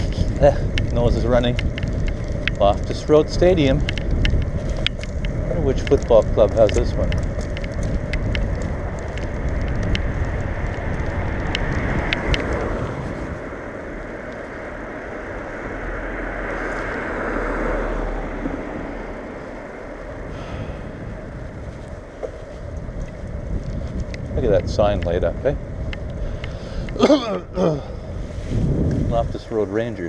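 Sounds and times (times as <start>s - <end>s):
bicycle riding wind and road noise: 0.0s - 30.0s.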